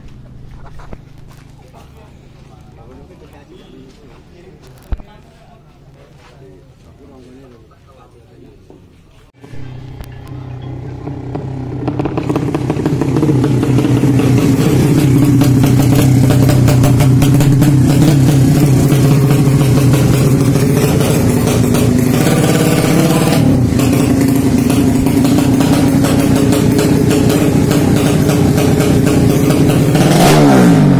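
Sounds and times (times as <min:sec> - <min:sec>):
motorcycle engine running: 0:00.0 - 0:03.4, 0:09.4 - 0:30.9.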